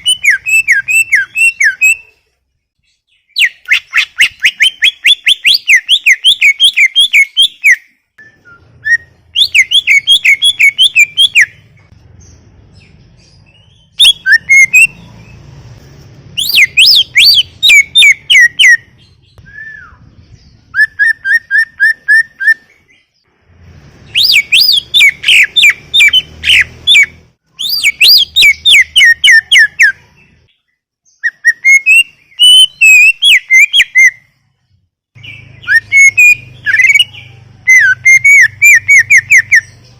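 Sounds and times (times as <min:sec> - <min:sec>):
bird singing fast high chirps: 0:00.0 - 0:02.2, 0:02.8 - 0:15.6, 0:16.2 - 0:34.6, 0:35.2 - 0:39.9.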